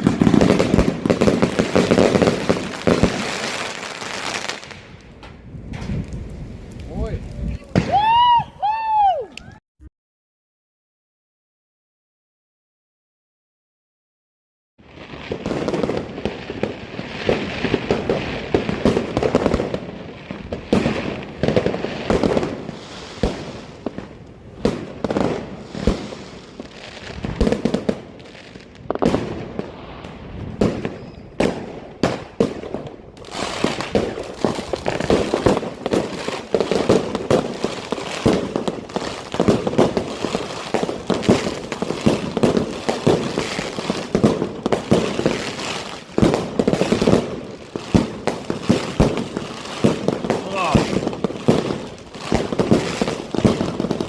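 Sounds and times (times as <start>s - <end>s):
fireworks launching and bursting: 0.0s - 9.6s, 14.9s - 54.0s.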